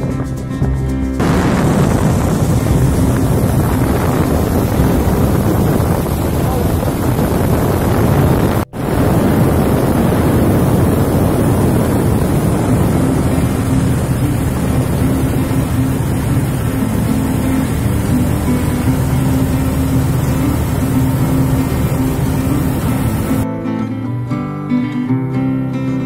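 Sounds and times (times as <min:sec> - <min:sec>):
wind on microphone: 0:01.1 - 0:23.4
boat motor running: 0:01.2 - 0:23.4
water spray: 0:01.2 - 0:23.4.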